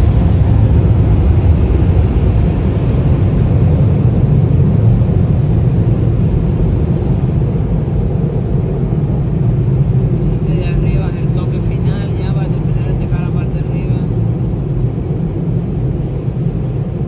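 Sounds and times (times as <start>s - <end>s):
car wash machinery rumble: 0.0s - 17.0s.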